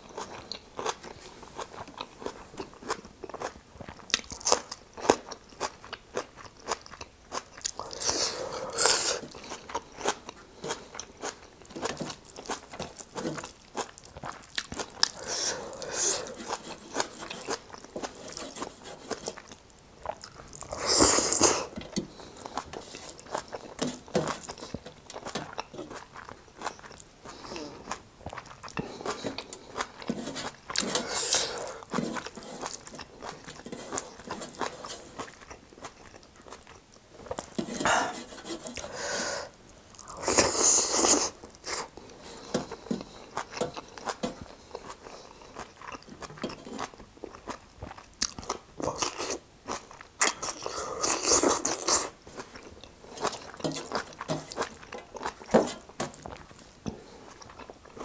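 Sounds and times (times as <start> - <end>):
person crunching and chewing food: 0.0 - 58.0.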